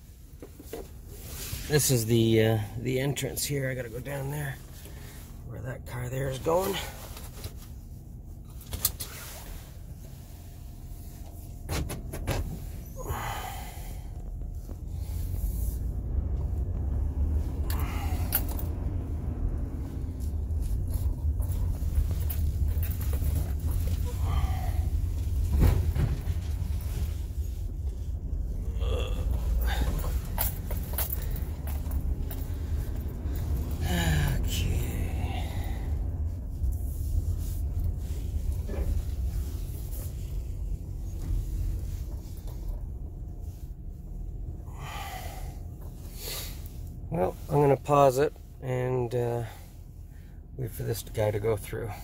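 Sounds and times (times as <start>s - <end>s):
van engine idling: 0.0s - 52.0s.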